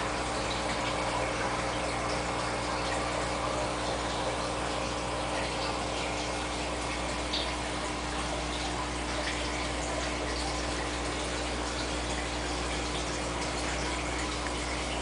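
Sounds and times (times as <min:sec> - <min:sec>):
pump hum: 0:00.0 - 0:15.0
water trickling and splashing: 0:00.0 - 0:15.0.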